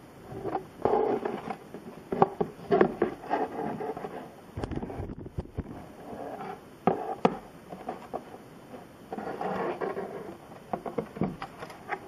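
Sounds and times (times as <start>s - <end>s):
scraping and rubbing: 0.2s - 12.0s.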